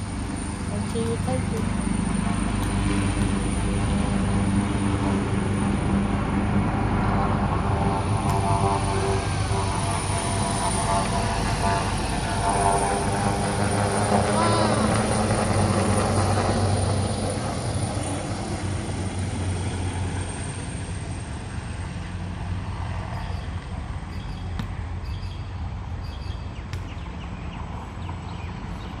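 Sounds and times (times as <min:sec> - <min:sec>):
helicopter rotor and engine drone: 0:00.0 - 0:29.0.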